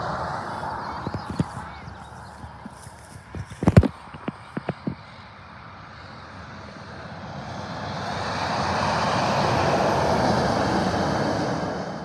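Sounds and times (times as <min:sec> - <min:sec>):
truck passing on highway: 0:00.0 - 0:12.0.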